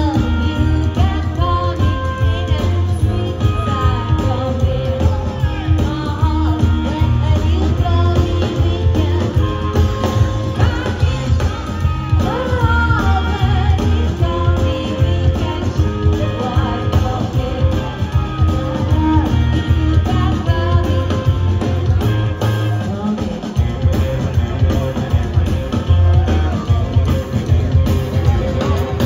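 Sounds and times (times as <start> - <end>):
woman singing: 0.0 - 24.0
electric guitar: 0.0 - 29.0
upright bass line: 0.0 - 29.0.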